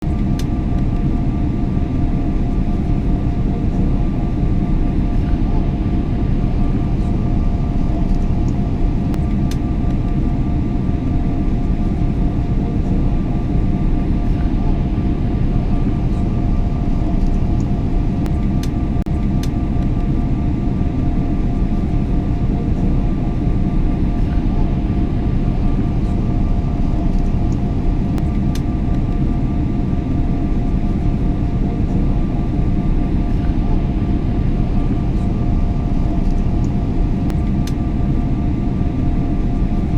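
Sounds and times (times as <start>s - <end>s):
airliner engines and airflow rumble: 0.0s - 39.9s
faint steady hum: 0.0s - 39.9s.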